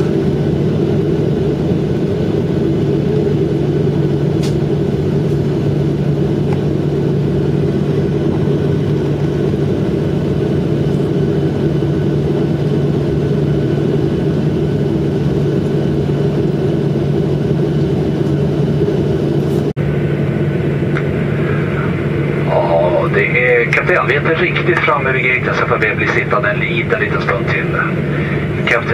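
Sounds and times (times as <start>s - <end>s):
jet engines droning in cabin: 0.0s - 28.9s.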